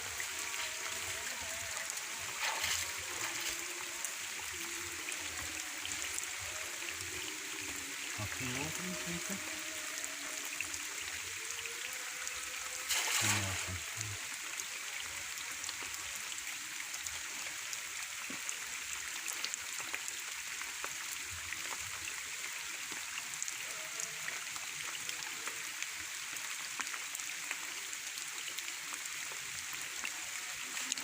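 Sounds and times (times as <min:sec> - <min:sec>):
rain and running water: 0:00.0 - 0:31.0.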